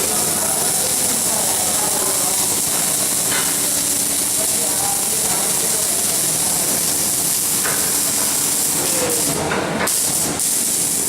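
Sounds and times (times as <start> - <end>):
welding arc hissing: 0.0 - 11.0.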